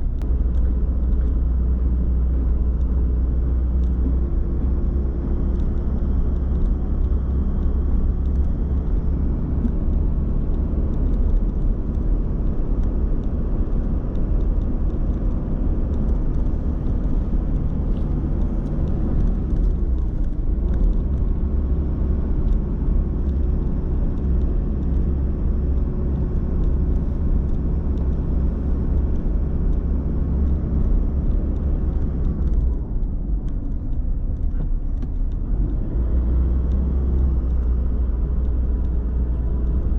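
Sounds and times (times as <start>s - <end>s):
road rumble: 0.0s - 39.9s
vehicle engine hum: 0.0s - 39.9s.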